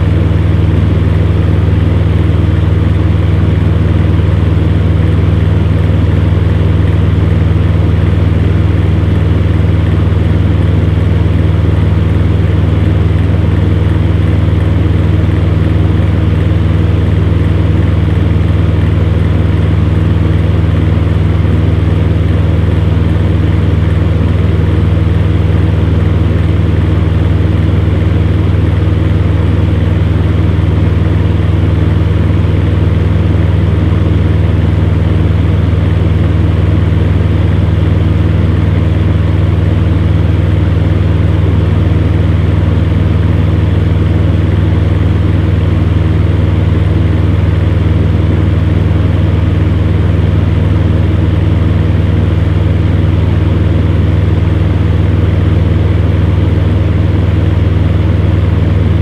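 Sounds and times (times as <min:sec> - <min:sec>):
electric fan heater running: 0:00.0 - 0:59.0.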